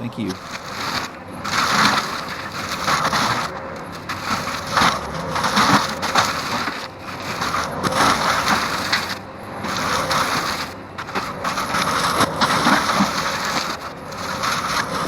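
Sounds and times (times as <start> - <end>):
forestry mulcher grinding wood: 0.0 - 15.0.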